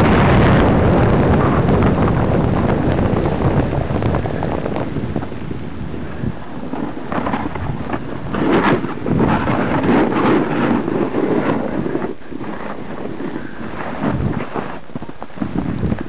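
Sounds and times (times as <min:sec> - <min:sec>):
snowboard scraping over snow: 0:00.0 - 0:16.0
wind buffeting microphone: 0:00.0 - 0:16.0.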